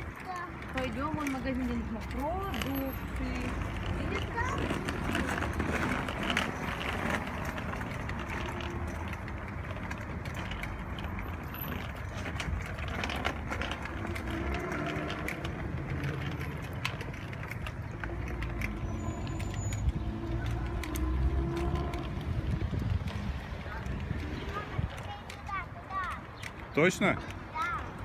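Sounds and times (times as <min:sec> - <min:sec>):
scooter wheels rolling on asphalt: 0:00.0 - 0:28.0.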